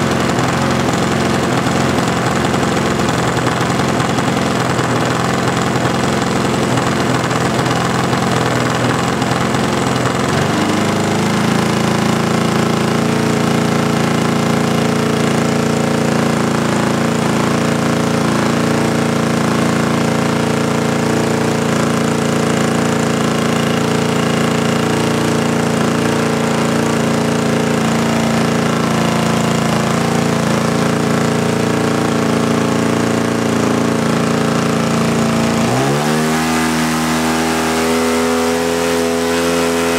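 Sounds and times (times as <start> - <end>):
model plane engine running: 0.0 - 39.9.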